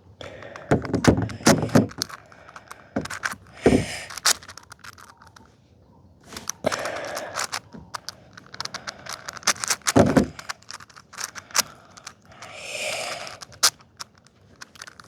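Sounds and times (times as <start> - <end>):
puzzle cube plastic clicks: 0.2 - 5.5, 6.3 - 15.0.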